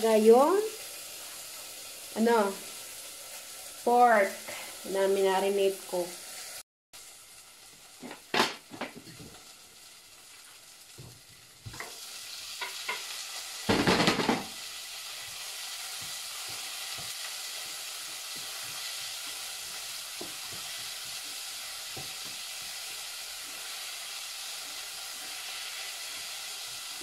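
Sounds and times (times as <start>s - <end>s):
meat sizzling in hot oil: 0.0s - 27.0s.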